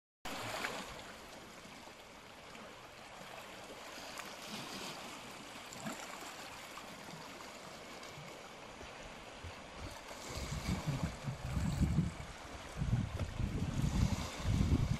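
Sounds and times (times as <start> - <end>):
faint splashes: 0.3 - 13.4
water lapping around rocks: 0.3 - 14.9.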